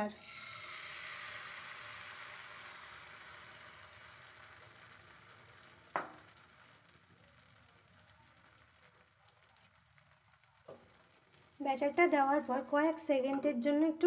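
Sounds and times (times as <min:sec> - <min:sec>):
batter sizzling in a frying pan: 0:00.0 - 0:13.7.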